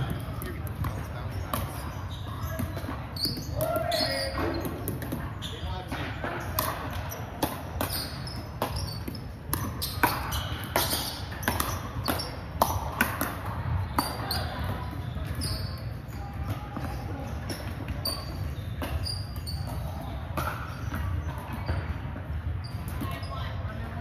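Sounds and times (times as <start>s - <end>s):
ball bouncing on hardwood court: 0.0s - 23.4s.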